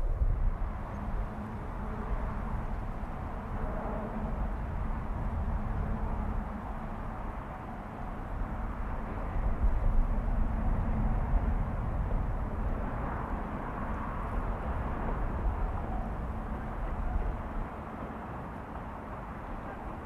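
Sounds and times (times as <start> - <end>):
train rumbling along tracks: 0.0 - 20.0.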